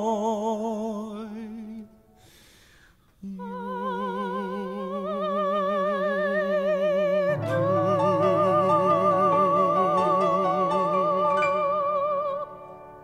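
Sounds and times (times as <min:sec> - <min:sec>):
lower singing voice: 0:00.0 - 0:02.0, 0:03.2 - 0:13.0
person singing with vibrato: 0:00.0 - 0:13.0.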